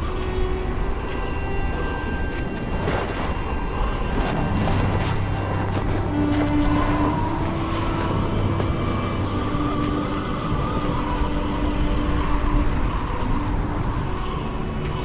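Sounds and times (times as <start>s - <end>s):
blizzard wind rumbling: 0.0s - 15.0s
wind whistling: 0.0s - 15.0s.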